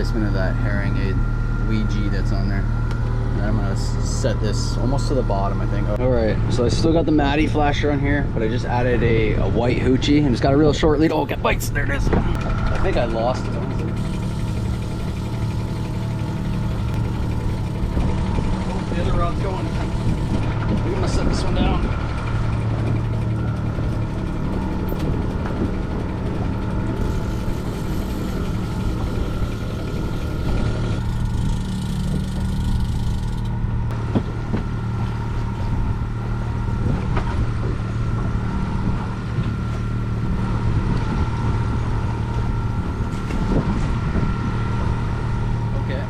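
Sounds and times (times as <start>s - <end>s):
boat engine humming: 0.0s - 46.0s.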